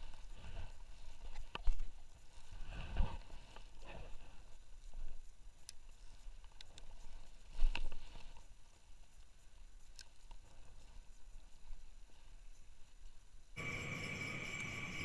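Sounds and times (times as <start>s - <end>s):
faint low outdoor rumble: 0.0s - 15.0s.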